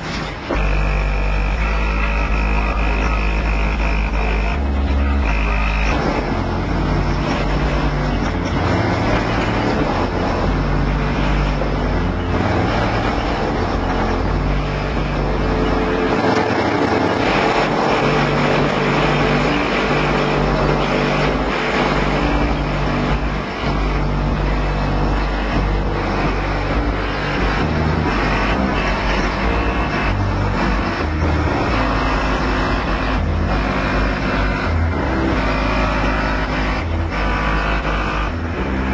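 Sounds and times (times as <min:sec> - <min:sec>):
bass-heavy music from subwoofers: 0:00.0 - 0:38.9.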